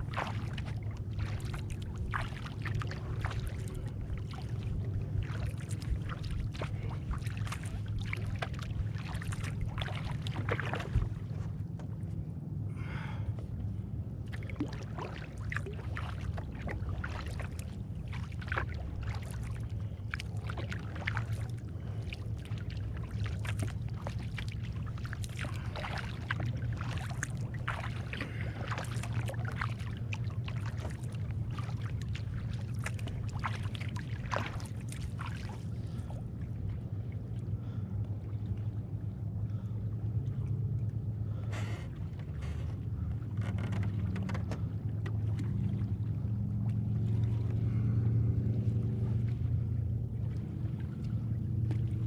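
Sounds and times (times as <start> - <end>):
paddle splashing: 0.0 - 52.0
steady low hum: 0.0 - 52.0.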